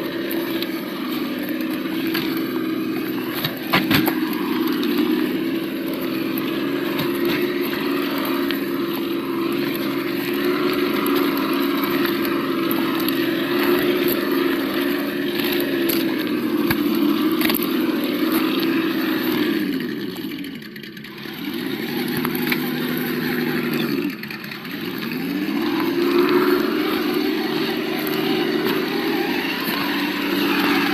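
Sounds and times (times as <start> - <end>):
simulated engine from small speaker: 0.0 - 30.9.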